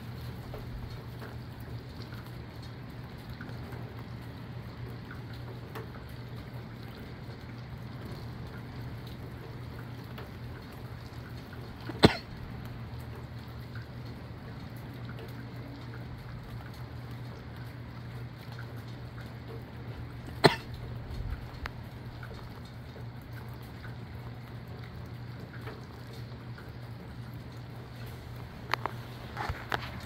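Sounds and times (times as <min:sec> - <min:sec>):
faint drip ticks: 0:00.0 - 0:30.0
rain: 0:00.0 - 0:30.0
wind: 0:00.0 - 0:30.0.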